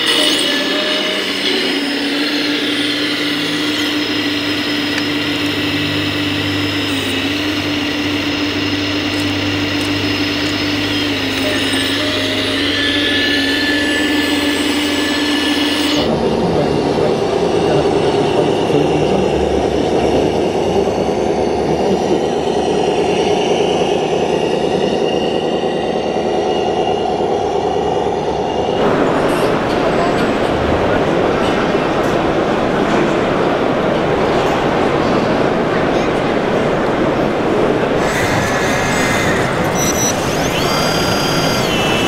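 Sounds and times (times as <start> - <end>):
electric motors and hydraulics whining: 0.0 - 30.6, 37.7 - 42.0
rough mechanical rumble: 0.0 - 42.0.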